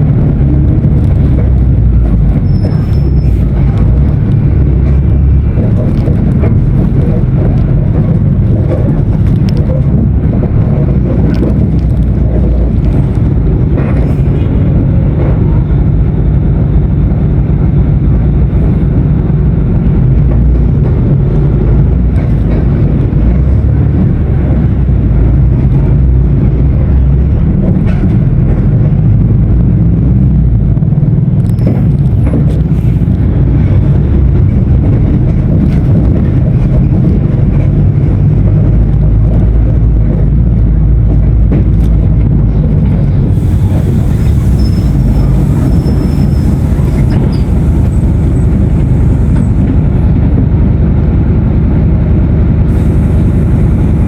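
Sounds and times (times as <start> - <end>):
diesel bus engine rumbling: 0.0 - 54.0.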